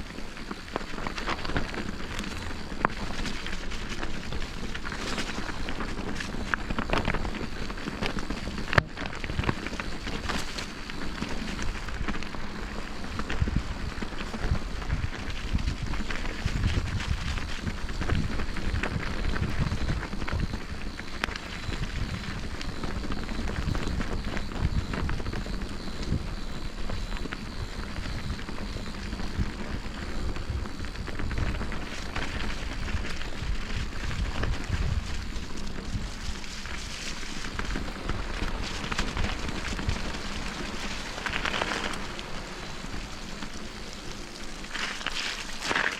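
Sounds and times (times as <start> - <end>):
bicycle tyres rumbling: 0.0 - 45.9.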